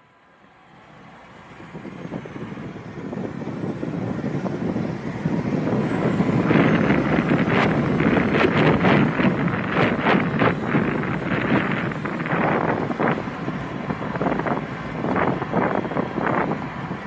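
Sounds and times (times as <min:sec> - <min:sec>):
wind rushing over microphone: 0:00.6 - 0:17.0.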